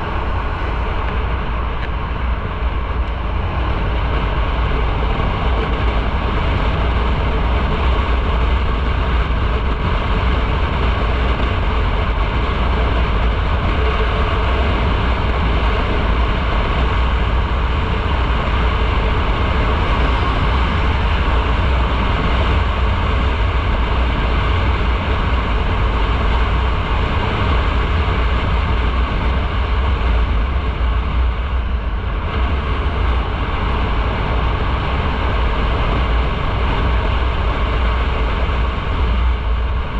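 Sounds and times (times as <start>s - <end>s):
motorcycle engine rumble: 0.0s - 39.9s
road and wind hiss: 0.0s - 39.9s.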